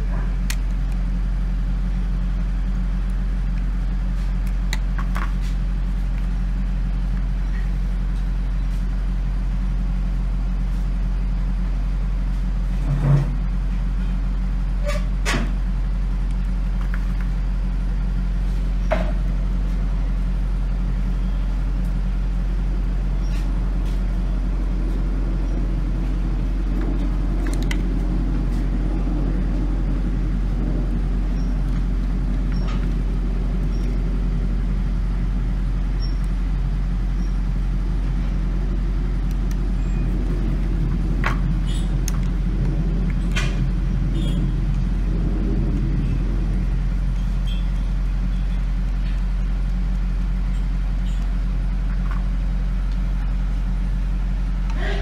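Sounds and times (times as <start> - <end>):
machinery hum and rumble: 0.0 - 55.0.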